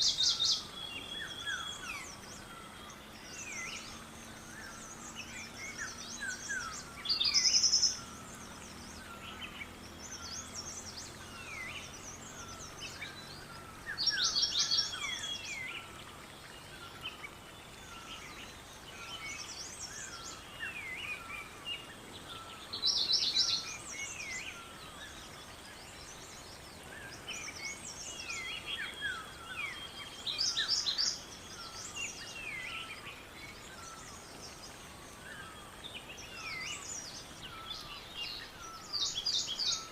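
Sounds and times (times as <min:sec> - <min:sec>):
songbirds chirping chorus: 0:00.0 - 0:39.9.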